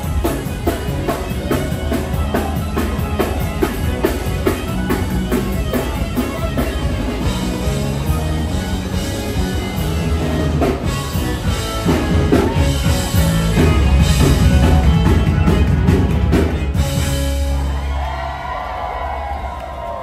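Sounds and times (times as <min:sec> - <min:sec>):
live rock band playing: 0:00.0 - 0:19.9
crowd cheering: 0:00.0 - 0:20.0.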